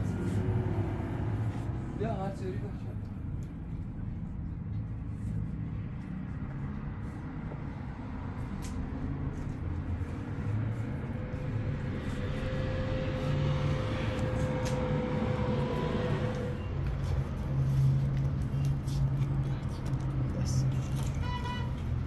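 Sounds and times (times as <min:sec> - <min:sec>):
motor vehicle rumble: 0:00.0 - 0:22.0.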